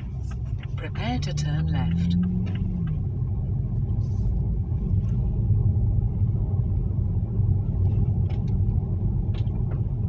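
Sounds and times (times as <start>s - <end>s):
car engine rumble from inside: 0.0s - 10.0s
road noise: 0.0s - 10.0s.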